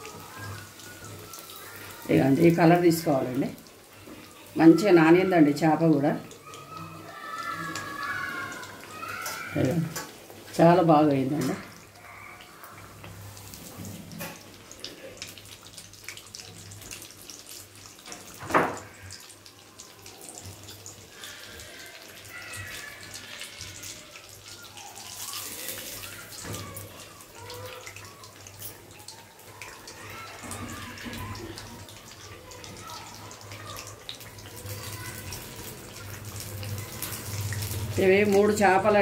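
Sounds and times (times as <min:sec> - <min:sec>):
hot oil sizzling and crackling: 0:00.0 - 0:39.0.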